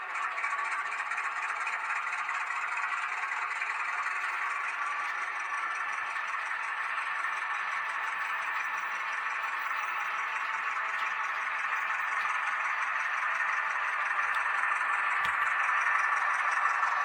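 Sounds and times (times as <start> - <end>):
model train rushing noise: 0.0 - 17.0.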